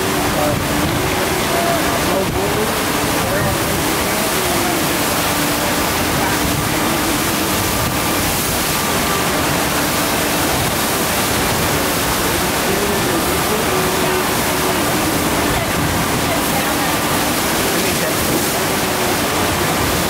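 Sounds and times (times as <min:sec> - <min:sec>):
water rushing and spraying: 0:00.0 - 0:20.0.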